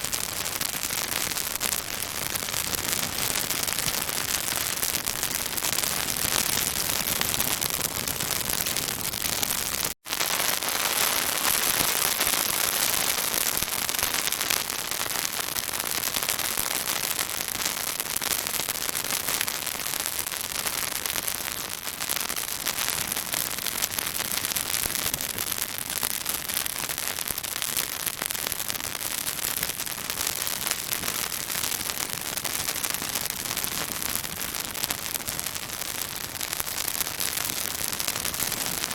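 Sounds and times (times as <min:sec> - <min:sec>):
bonfire crackling and popping: 0:00.0 - 0:38.9.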